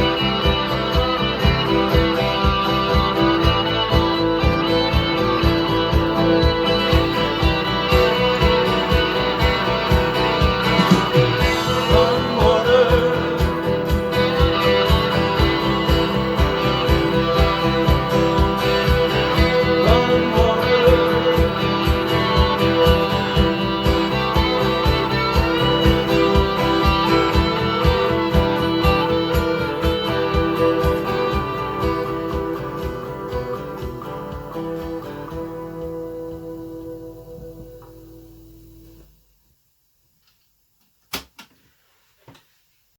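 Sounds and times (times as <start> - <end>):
country music with guitar: 0.0 - 39.0.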